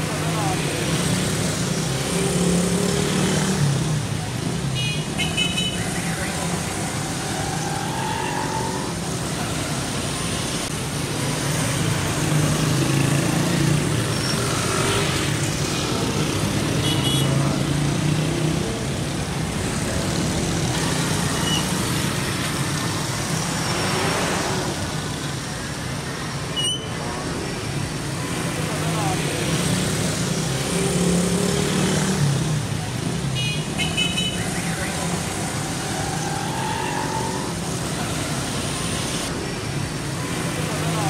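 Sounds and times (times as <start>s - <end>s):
heavy road traffic: 0.0s - 41.0s.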